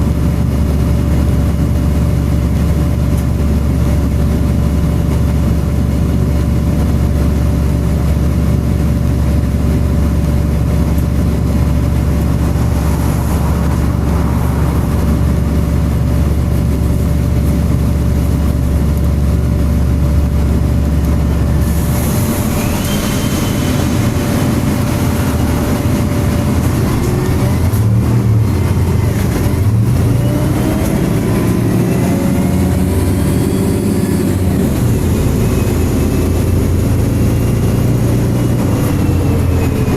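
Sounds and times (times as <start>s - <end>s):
bus engine accelerating through gears: 0.0s - 39.9s
bus engine and cooling fan droning: 0.0s - 39.9s.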